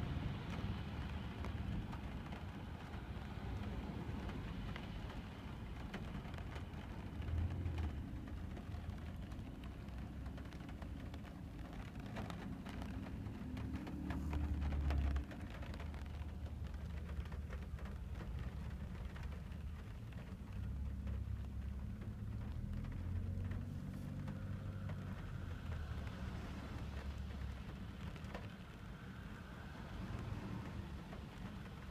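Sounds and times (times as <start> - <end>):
engine and road rumble: 0.0 - 31.9
rain pattering on car roof: 0.0 - 31.9.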